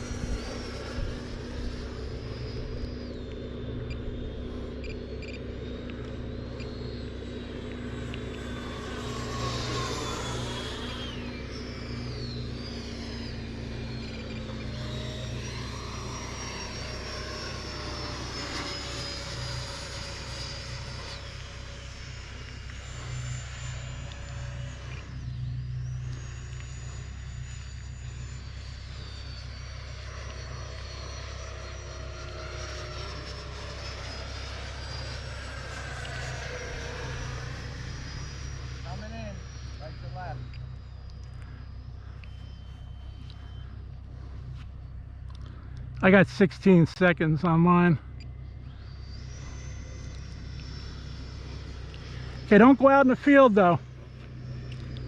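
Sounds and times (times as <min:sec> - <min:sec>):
model jets whining past: 0:00.0 - 0:55.0.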